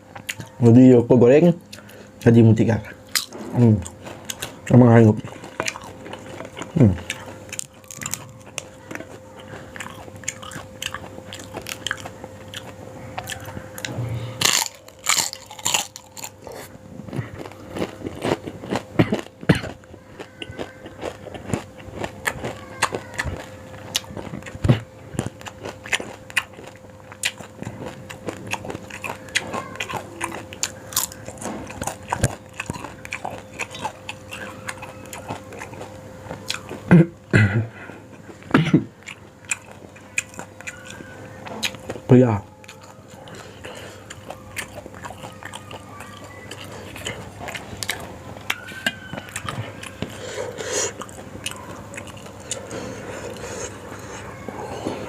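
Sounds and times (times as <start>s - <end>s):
faint steady hum: 0.0s - 55.0s
person chewing with wet crunches: 0.0s - 55.0s.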